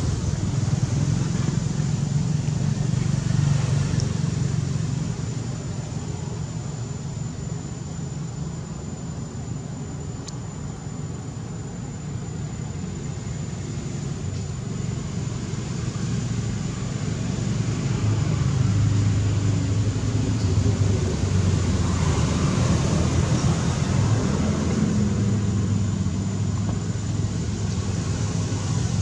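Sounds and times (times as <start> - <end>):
low motor rumble: 0.0 - 29.0.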